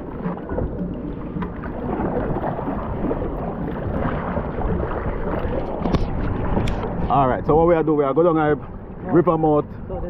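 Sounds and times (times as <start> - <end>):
river water noise: 0.0 - 10.0.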